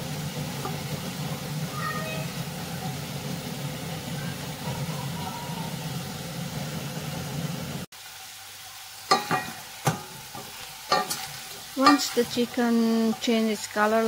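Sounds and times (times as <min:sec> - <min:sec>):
chicken frying in a pot: 0:00.0 - 0:14.0.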